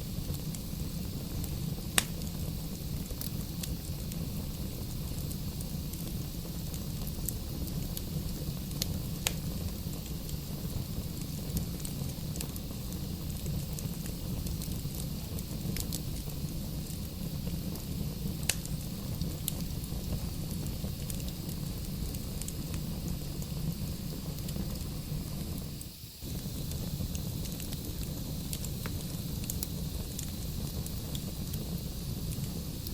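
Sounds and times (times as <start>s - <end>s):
flames rumbling in fireplace: 0.0s - 32.9s
sharp pops from fire: 0.0s - 32.9s.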